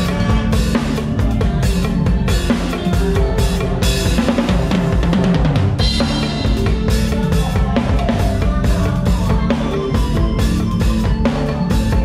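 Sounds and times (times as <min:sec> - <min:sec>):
bass guitar: 0:00.0 - 0:12.0
drum kit groove: 0:00.0 - 0:12.0
keyboard playing: 0:00.0 - 0:12.0.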